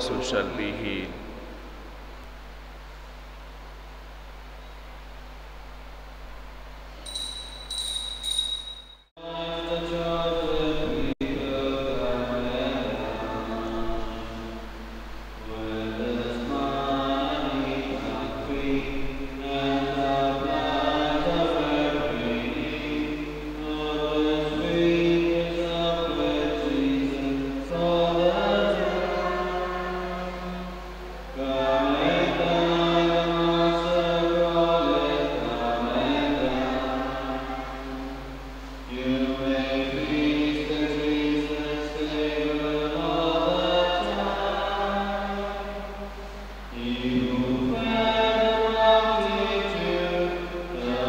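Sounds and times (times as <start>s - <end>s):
low electrical hum: 0.0s - 51.0s
group singing a hymn: 9.2s - 51.0s.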